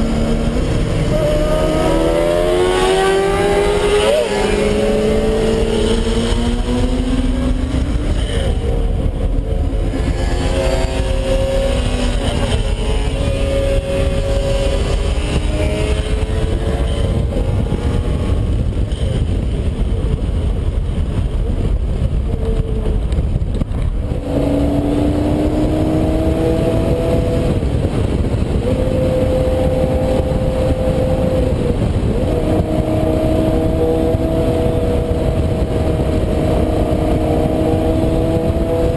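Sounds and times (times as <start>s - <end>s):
sports car engine accelerating: 0.0s - 20.7s, 21.4s - 38.9s.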